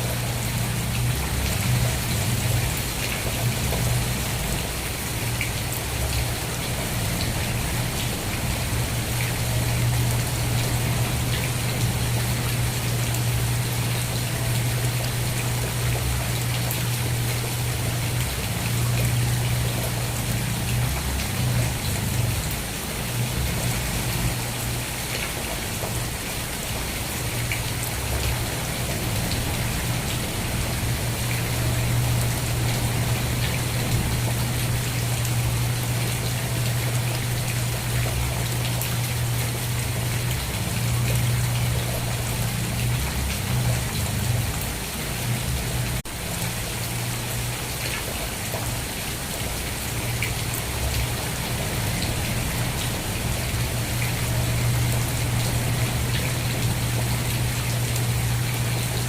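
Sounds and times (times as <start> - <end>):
rain falling: 0.0 - 59.0
raindrop ticks: 0.1 - 26.2, 26.8 - 59.0.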